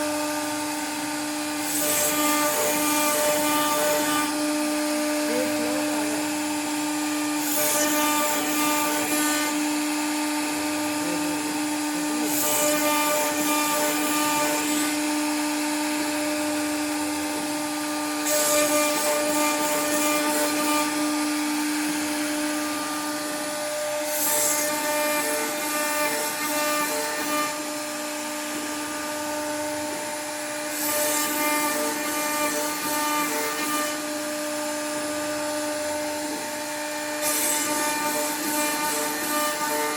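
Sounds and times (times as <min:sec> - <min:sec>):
bit carving wood rasp: 0:00.0 - 0:35.2, 0:35.8 - 0:39.9
router spindle whine: 0:00.0 - 0:39.9.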